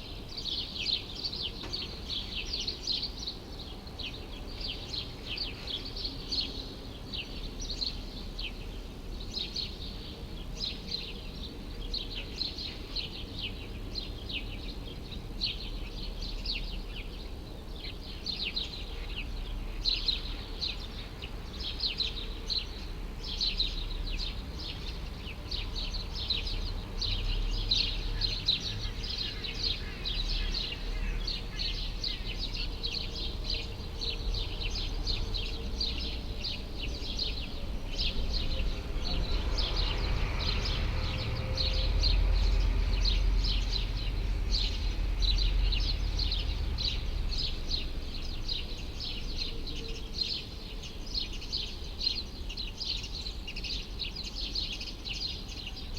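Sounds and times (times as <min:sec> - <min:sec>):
city traffic rumble: 0:00.0 - 0:55.9
flock of small birds chirping: 0:00.0 - 0:55.9.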